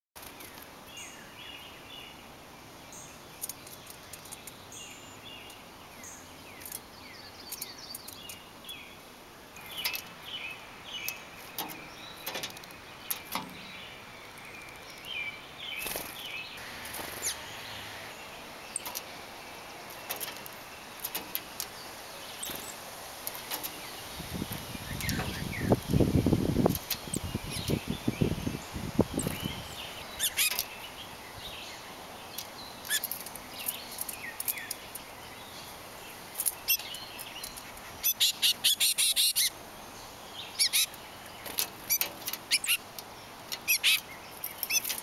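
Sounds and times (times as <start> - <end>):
small songbirds chirping: 0.2 - 45.0
steady background hiss: 0.2 - 45.0.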